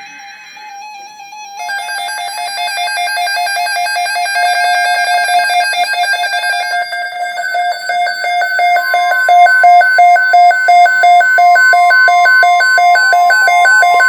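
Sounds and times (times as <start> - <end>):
warbling electronic alarm tone: 0.0 - 14.0.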